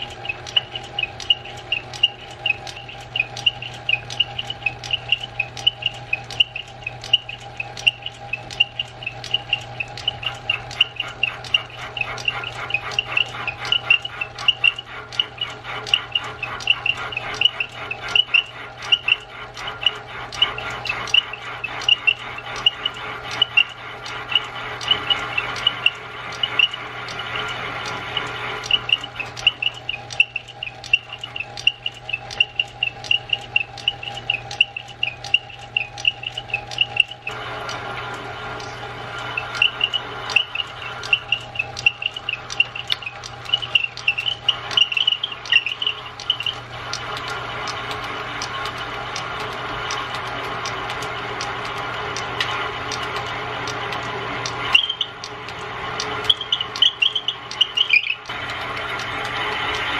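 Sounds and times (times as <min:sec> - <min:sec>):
tool bit squeaking: 0:00.0 - 0:37.4, 0:38.6 - 0:58.4
lathe motor hum: 0:00.0 - 0:59.9
sharp clicks: 0:00.0 - 0:59.9.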